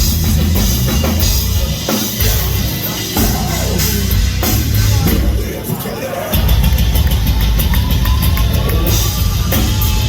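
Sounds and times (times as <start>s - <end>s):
heavy metal band playing: 0.0s - 10.0s.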